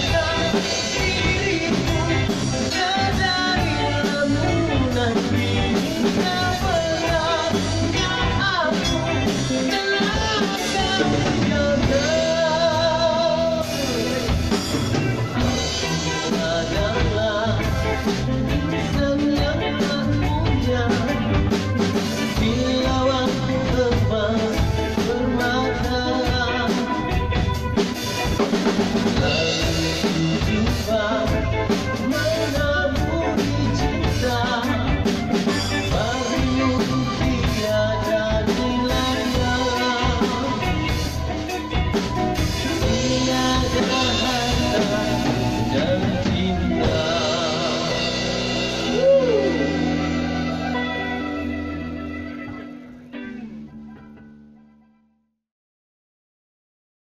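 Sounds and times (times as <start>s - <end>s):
man singing: 0.0s - 52.8s
live reggae band playing: 0.0s - 54.9s.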